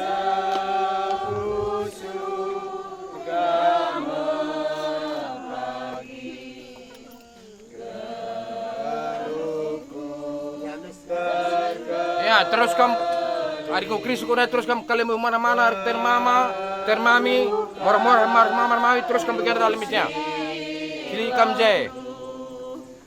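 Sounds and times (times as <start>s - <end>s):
group of voices singing: 0.0s - 23.0s.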